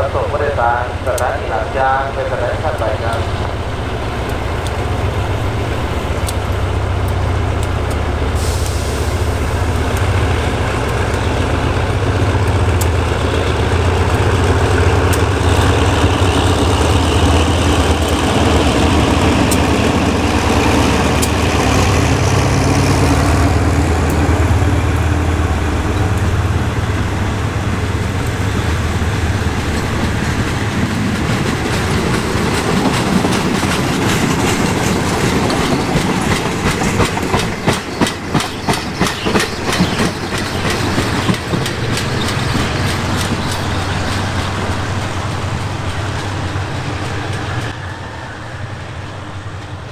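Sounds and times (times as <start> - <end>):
locomotive engine drone: 0.0 - 49.9
train wheels clicking over rail joints: 3.1 - 47.8.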